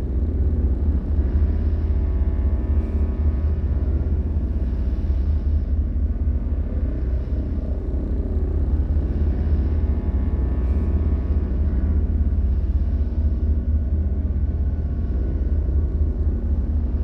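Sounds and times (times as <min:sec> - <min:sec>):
deep rumbling drone: 0:00.0 - 0:17.0.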